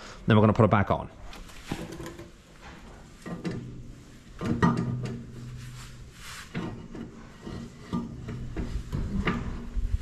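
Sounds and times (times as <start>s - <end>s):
metal clunks and scrapes: 1.4s - 10.0s.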